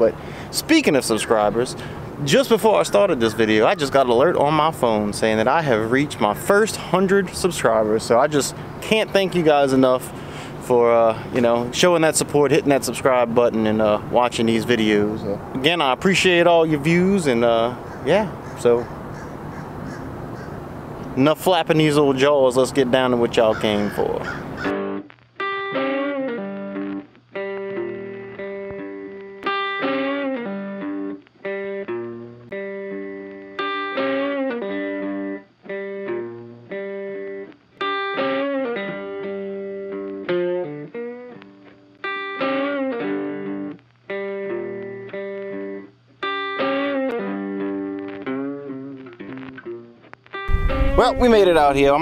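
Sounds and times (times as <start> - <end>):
plucked guitar riff: 0.0 - 52.0.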